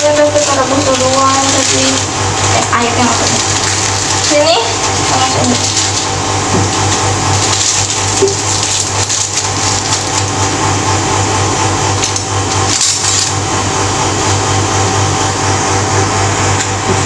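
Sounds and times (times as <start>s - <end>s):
water boiling in pot: 0.0s - 15.6s.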